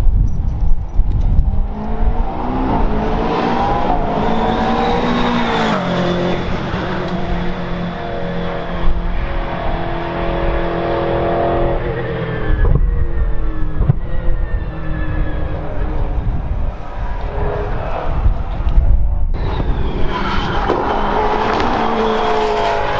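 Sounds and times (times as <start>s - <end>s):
race car engine passing at full throttle: 1.4s - 22.9s.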